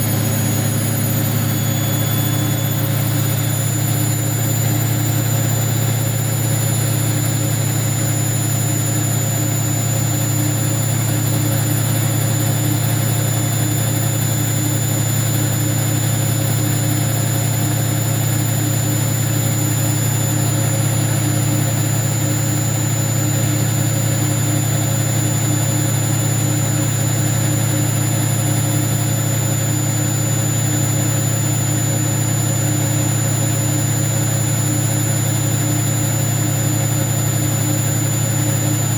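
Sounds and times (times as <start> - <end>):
washing machine drone: 0.0 - 38.9.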